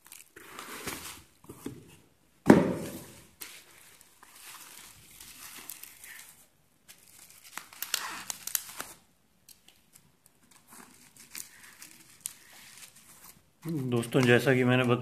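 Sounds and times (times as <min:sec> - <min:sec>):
bubble wrap crinkling: 0:00.0 - 0:01.5, 0:02.8 - 0:15.0.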